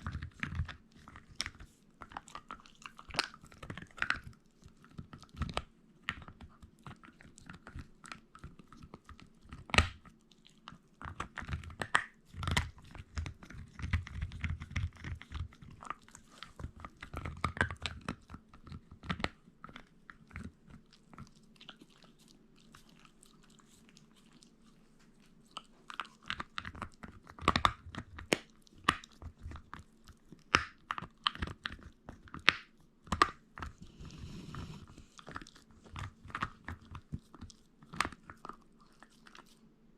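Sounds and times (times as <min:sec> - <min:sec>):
dog chewing and crunching: 0:00.0 - 0:39.7.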